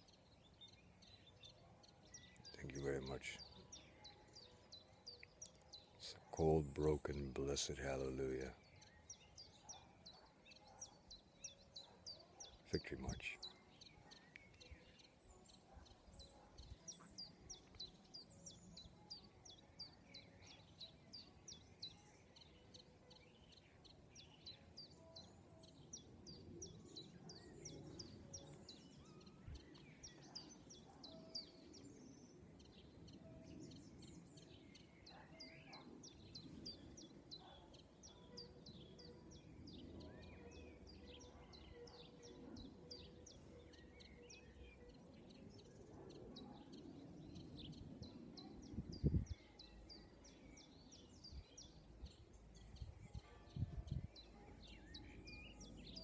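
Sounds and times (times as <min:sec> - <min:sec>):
scattered bird calls: 0:00.0 - 0:56.0.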